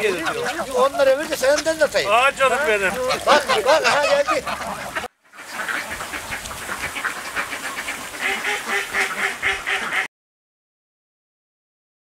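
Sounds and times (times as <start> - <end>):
ducks quacking: 0.0 - 10.1.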